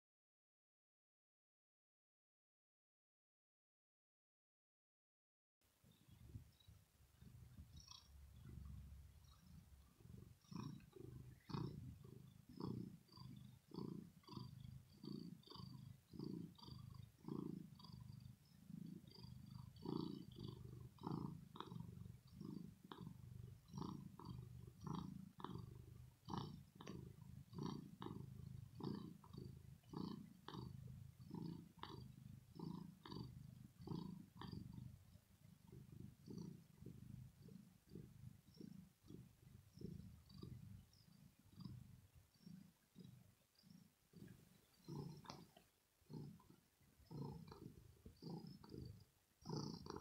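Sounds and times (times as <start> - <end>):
cat purring: 5.7 - 50.0.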